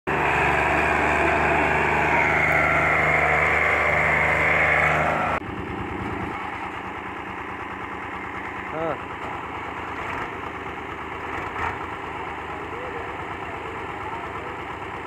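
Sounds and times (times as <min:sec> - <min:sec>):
tractor diesel engines running: 0:00.1 - 0:15.0.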